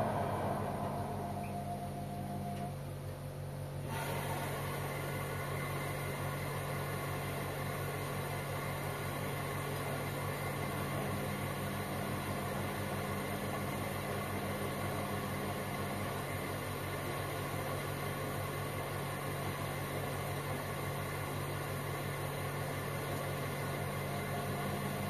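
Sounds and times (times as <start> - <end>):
washing machines humming: 0.0 - 25.0.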